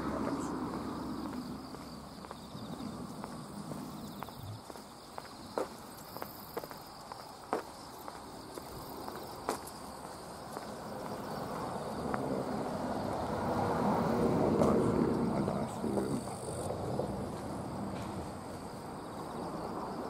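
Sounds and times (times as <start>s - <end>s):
footsteps on paved path: 0.0s - 13.9s, 14.6s - 20.0s
insects droning: 0.0s - 20.0s.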